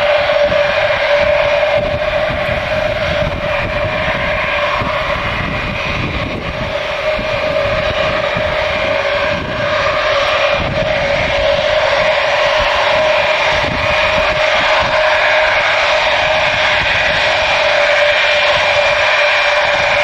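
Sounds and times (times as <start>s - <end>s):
jet engines screaming and roaring: 0.0s - 20.0s.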